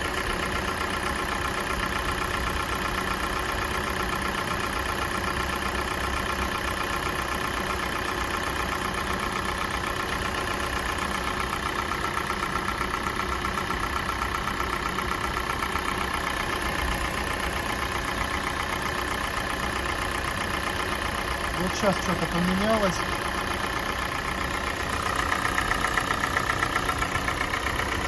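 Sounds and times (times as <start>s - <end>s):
car engine idling: 0.0s - 28.0s
fast even engine ticking: 0.0s - 28.0s.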